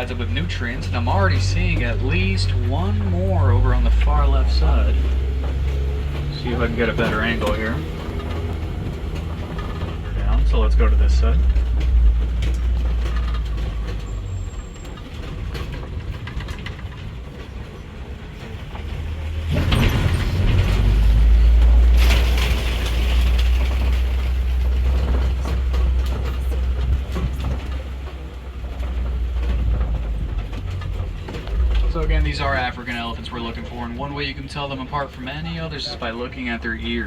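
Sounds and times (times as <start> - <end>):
truck rattling and jolting: 0.0 - 37.0
truck rumbling on dirt track: 0.0 - 37.0.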